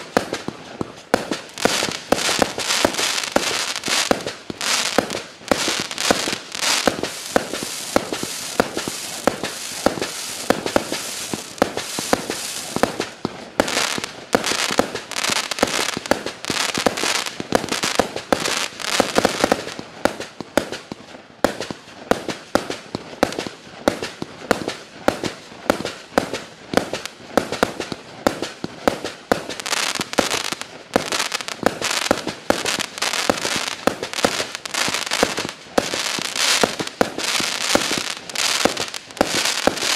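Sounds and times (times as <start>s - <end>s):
fireworks crackling and hiss: 0.0s - 39.9s
fireworks launch pops and bursts: 0.0s - 39.9s.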